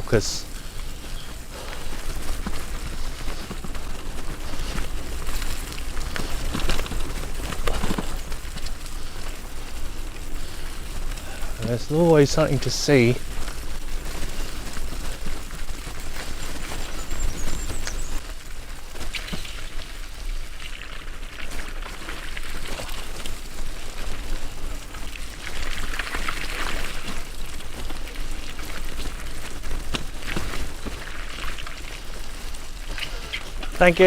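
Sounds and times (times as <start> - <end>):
bicycle tyres rolling on mud: 0.0 - 34.0.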